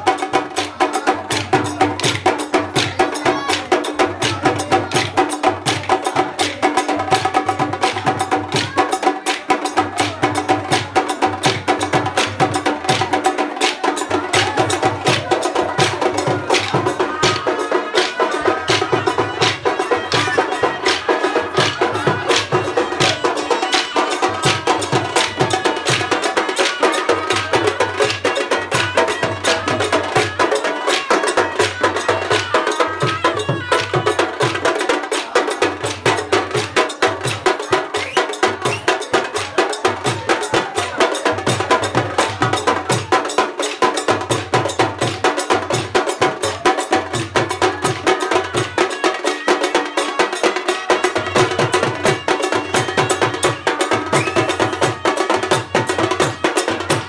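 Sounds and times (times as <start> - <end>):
fast percussion strikes: 0.0 - 57.0.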